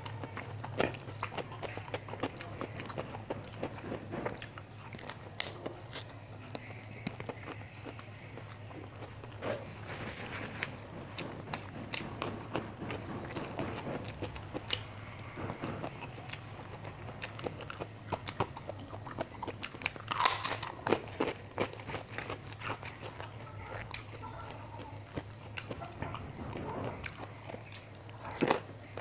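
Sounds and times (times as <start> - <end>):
chewing crunchy food: 0.0 - 29.0.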